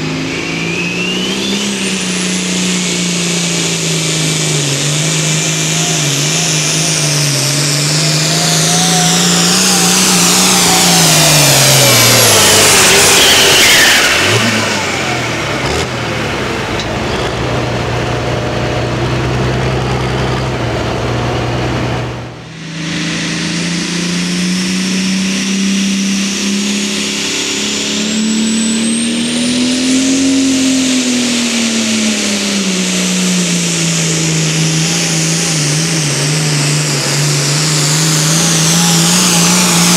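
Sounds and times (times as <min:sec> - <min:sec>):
high whine: 0:00.0 - 0:39.9
tractor engine at full power: 0:00.0 - 0:39.9.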